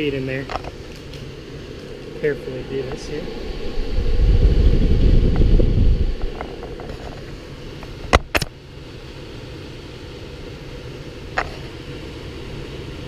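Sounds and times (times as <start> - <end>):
air handler blower rushing air: 0.0 - 13.0.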